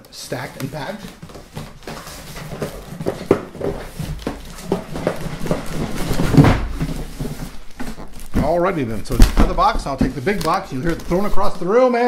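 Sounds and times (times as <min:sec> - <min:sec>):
cardboard box scraping and knocking: 0:00.8 - 0:11.6.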